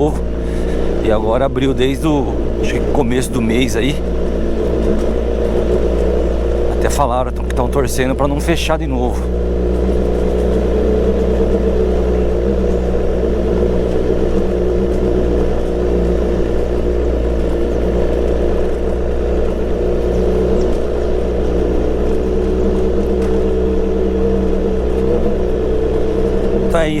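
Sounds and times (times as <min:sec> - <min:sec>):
motorcycle engine running steadily: 0:00.0 - 0:27.0.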